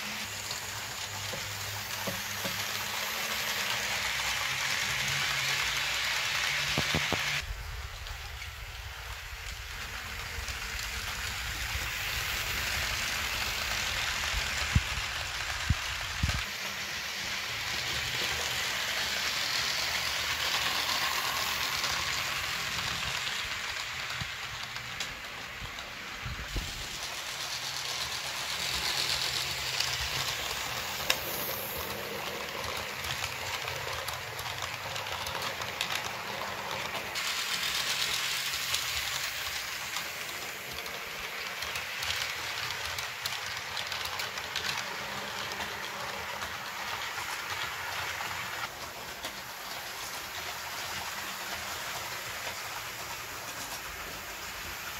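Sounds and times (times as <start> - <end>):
model train rolling whir: 0.0 - 54.9.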